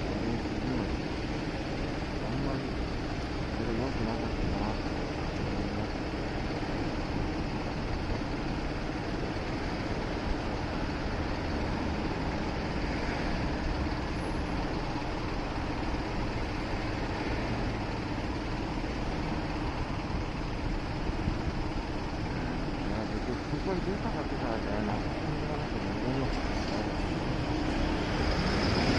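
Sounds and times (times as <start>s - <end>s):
motorcycle engine hum: 0.0s - 28.4s
road and wind noise: 0.0s - 28.9s.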